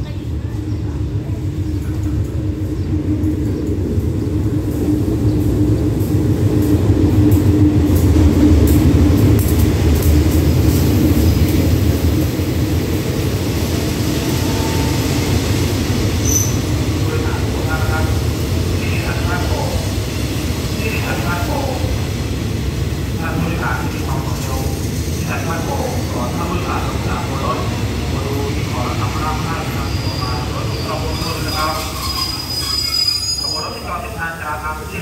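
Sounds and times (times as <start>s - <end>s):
diesel locomotive engine humming: 0.0s - 35.0s
passenger coaches rolling by: 0.0s - 35.0s.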